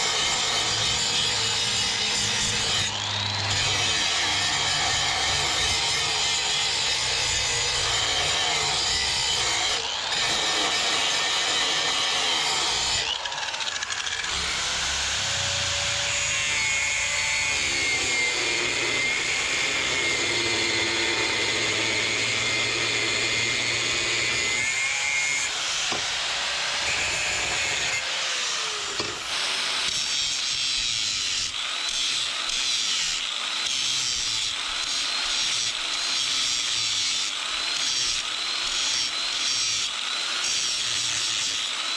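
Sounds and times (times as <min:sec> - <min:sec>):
power grinder on steel: 0:00.0 - 0:41.9.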